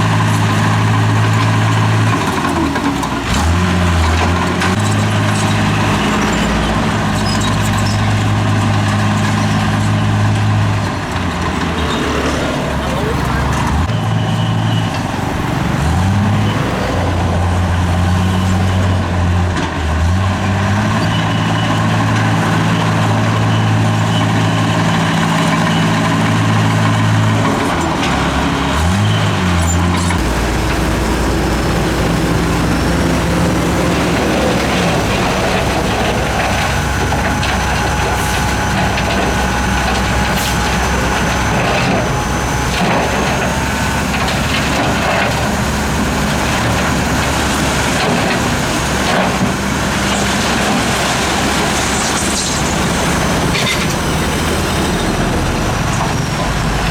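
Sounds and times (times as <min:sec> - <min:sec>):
diesel machine engine: 0:00.0 - 0:56.9.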